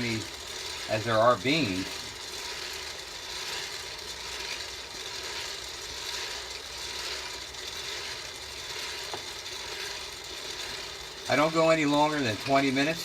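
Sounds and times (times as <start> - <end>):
beans stirred in pan: 0.0 - 13.0
coffee roaster running: 0.0 - 13.0.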